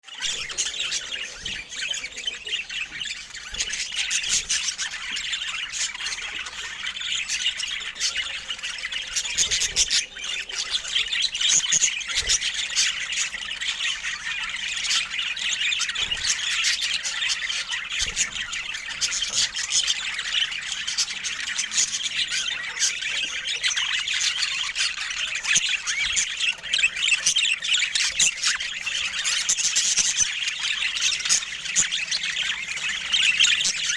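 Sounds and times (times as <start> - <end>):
budgerigars chattering: 0.1 - 33.9.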